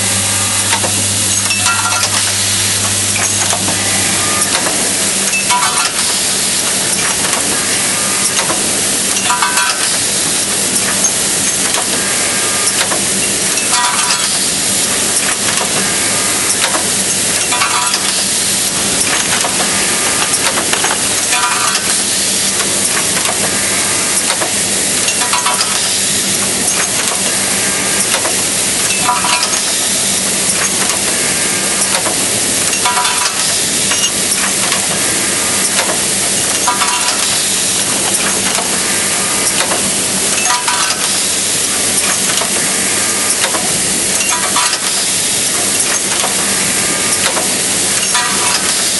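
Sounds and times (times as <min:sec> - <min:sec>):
machine humming: 0:00.0 - 0:48.9
repeating machine cycle: 0:00.0 - 0:48.9
machine clicks: 0:00.7 - 0:03.8, 0:04.4 - 0:06.2, 0:08.2 - 0:10.1, 0:10.7 - 0:12.0, 0:12.7 - 0:15.9, 0:16.5 - 0:23.6, 0:24.2 - 0:27.4, 0:28.0 - 0:29.8, 0:30.5 - 0:31.1, 0:31.8 - 0:35.0, 0:35.6 - 0:38.8, 0:39.4 - 0:41.3, 0:41.9 - 0:48.9.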